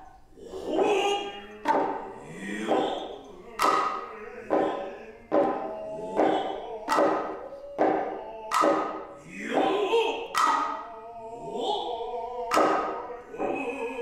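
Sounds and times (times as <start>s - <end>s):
sharp hand-drum strokes: 0.0s - 10.9s, 12.5s - 14.0s
drawn-out vocal calls: 0.0s - 14.0s.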